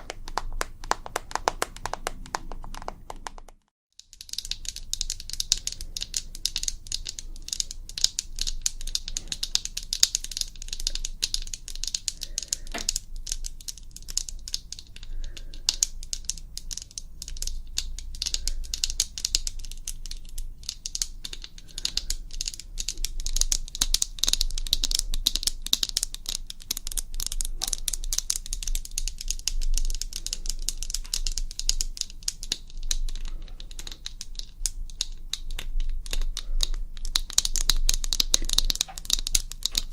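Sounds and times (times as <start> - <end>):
rapid tapping clicks: 0.0 - 39.9.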